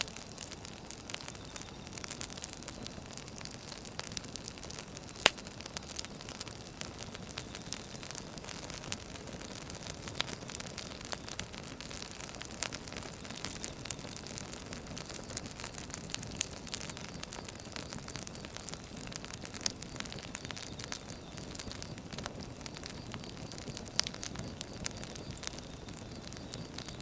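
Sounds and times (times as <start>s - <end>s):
soft hiss of fire: 0.0s - 27.0s
wood fire popping and snapping: 0.0s - 27.0s.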